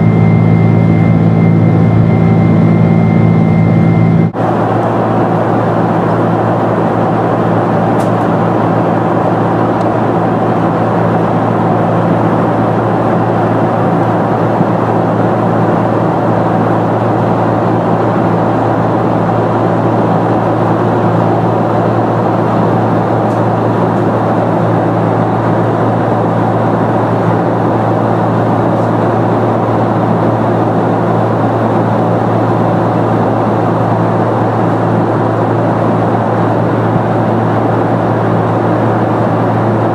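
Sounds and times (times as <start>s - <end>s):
deep even hum: 0.0s - 39.9s
jet engines droning: 0.0s - 39.9s.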